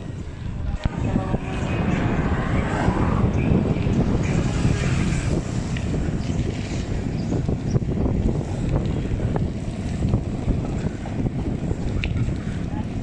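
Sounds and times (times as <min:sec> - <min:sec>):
motorcycle engine and road noise: 0:00.0 - 0:13.0
wind rushing over microphone: 0:00.0 - 0:13.0.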